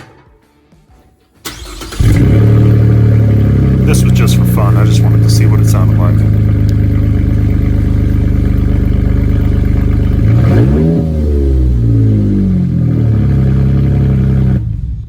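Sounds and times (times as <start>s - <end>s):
loud car engine idling and revving: 1.6s - 15.0s.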